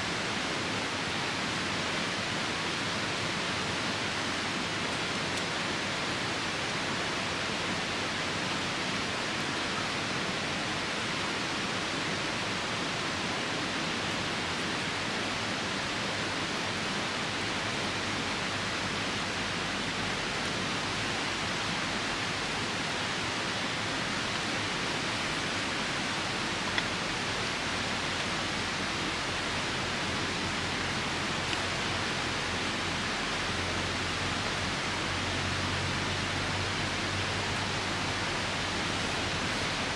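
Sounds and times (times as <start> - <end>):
rain: 0.0 - 39.9
river rushing: 0.0 - 39.9.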